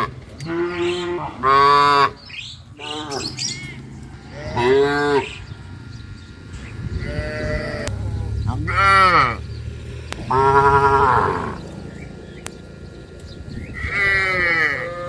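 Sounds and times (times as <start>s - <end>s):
cattle mooing: 0.0s - 12.2s, 13.5s - 15.0s.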